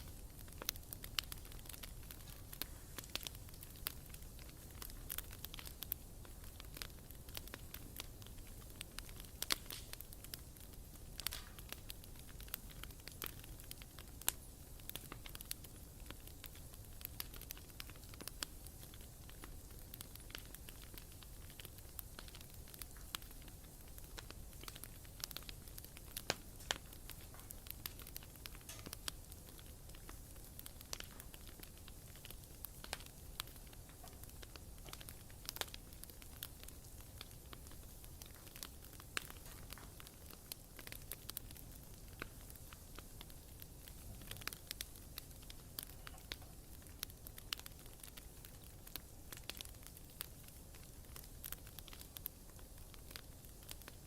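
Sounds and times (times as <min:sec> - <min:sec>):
bonfire crackling and popping: 0:00.0 - 0:54.0
low fire rumble: 0:00.0 - 0:54.0.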